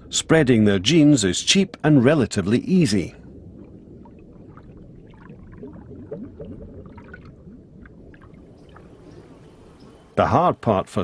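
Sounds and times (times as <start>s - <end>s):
soft gurgles: 0.0s - 10.2s
underwater rumble: 0.0s - 10.2s.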